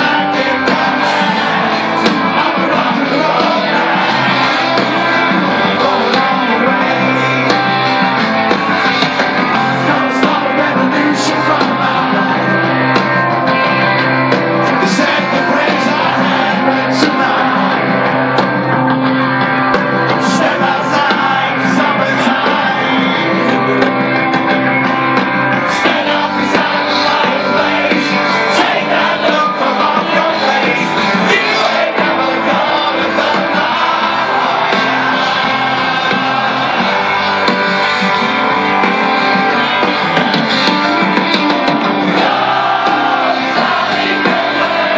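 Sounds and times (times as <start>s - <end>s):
person singing: 0.0s - 13.1s, 14.6s - 18.8s, 20.1s - 24.4s, 25.6s - 44.9s
rock band playing: 0.0s - 44.9s.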